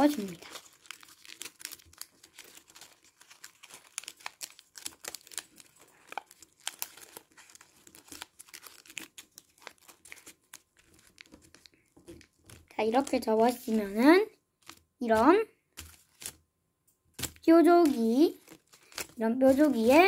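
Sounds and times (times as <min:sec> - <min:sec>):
paper crinkling and rustling: 0:00.0 - 0:16.4, 0:17.2 - 0:20.0.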